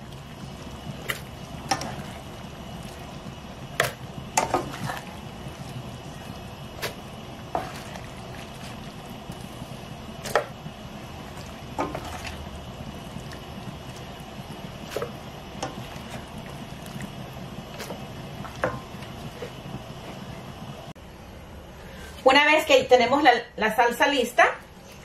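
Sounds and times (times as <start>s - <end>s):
food simmering with bubbling hiss: 0.0s - 22.1s.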